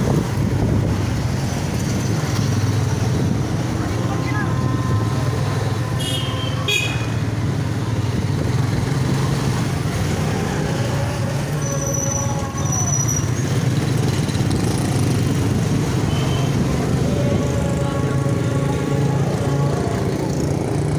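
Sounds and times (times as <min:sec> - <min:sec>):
street traffic noise: 0:00.0 - 0:20.9.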